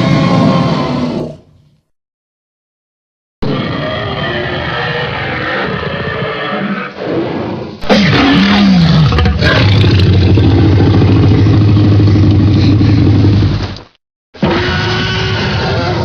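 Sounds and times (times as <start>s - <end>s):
dinosaur roar and low growl: 0.0s - 1.6s, 3.4s - 13.7s, 14.4s - 16.0s.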